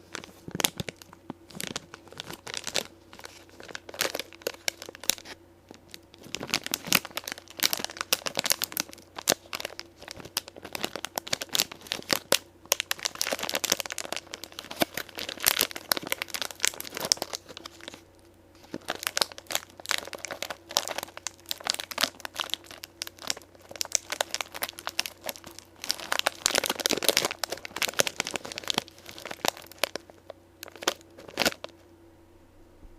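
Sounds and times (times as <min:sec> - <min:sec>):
plastic snack packet crinkling: 0:00.0 - 0:31.8.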